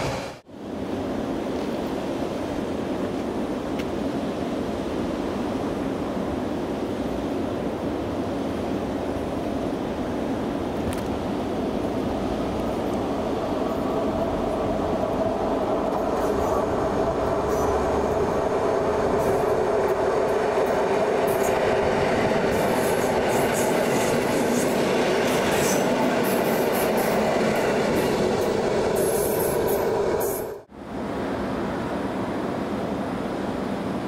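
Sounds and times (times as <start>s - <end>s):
train wheels rumbling on rails: 0.0s - 0.5s, 1.4s - 30.7s.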